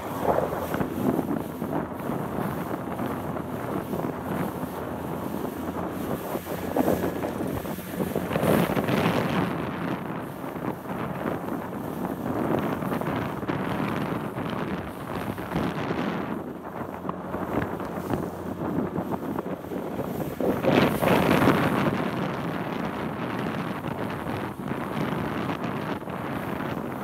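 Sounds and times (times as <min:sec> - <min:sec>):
choppy water washing: 0:00.0 - 0:27.0
wind buffeting microphone: 0:00.0 - 0:27.0.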